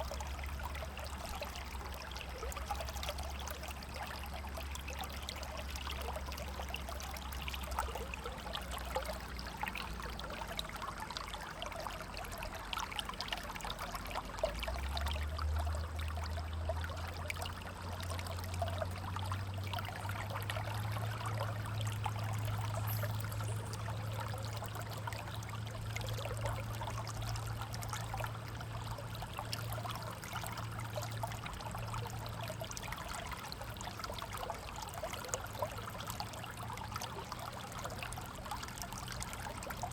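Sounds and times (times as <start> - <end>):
low steady rumble: 0.0 - 39.9
river water flowing: 0.0 - 39.9.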